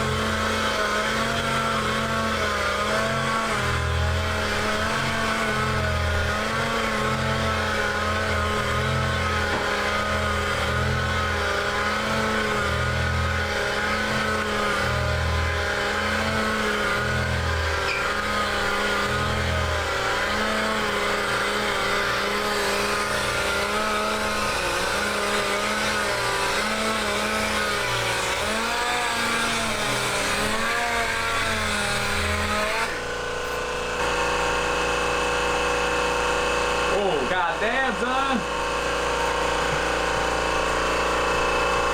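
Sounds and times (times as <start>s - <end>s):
electric sander on glass: 0.0s - 41.9s.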